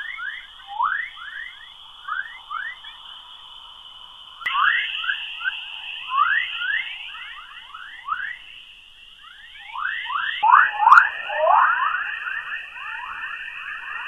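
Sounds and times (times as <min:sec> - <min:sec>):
downward-sweeping electronic chirps: 0:00.0 - 0:14.0
steady high hiss: 0:00.0 - 0:14.0.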